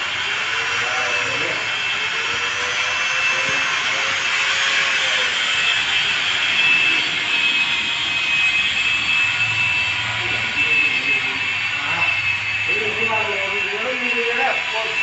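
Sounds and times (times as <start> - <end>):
machine hissing with high whine: 0.0 - 15.0.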